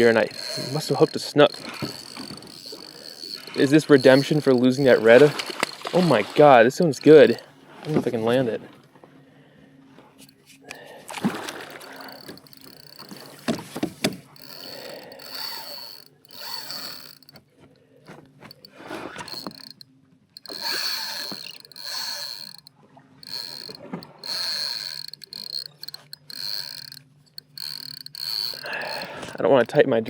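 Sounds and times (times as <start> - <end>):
reel gears ratcheting: 0.0 - 7.4, 11.6 - 17.4, 18.5 - 30.0
fishing reel drag buzzing: 0.0 - 7.5, 11.3 - 17.4, 18.5 - 30.0.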